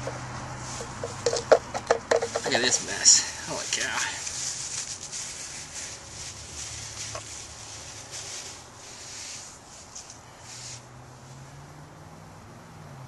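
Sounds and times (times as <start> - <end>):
wooden spindle rubbing hiss: 0.0 - 10.9.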